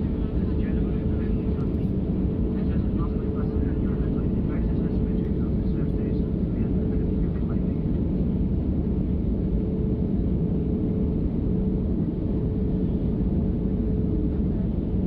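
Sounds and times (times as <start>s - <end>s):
airliner cabin engine drone: 0.0s - 15.0s.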